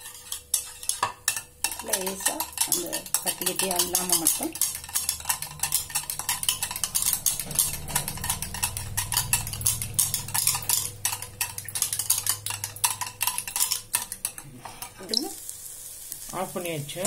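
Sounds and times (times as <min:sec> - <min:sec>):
wire whisk ticking against bowl: 0:00.2 - 0:14.4.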